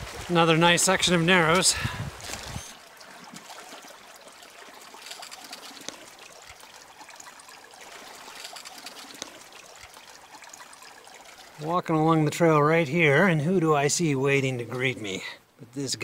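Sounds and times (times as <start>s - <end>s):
river water trickling: 0.0s - 16.0s.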